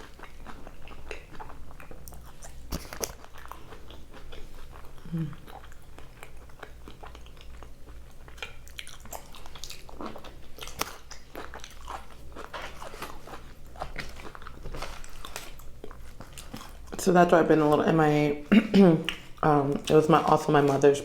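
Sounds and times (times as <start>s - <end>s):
person chewing food: 0.0s - 17.0s, 17.6s - 20.0s.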